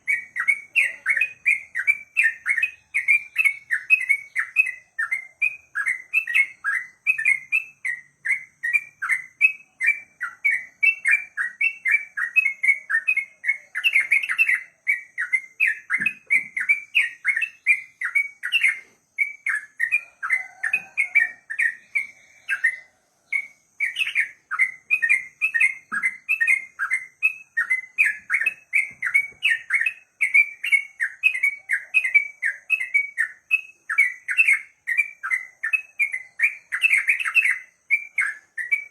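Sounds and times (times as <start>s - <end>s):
bird singing repeated chirps: 0.0s - 38.9s.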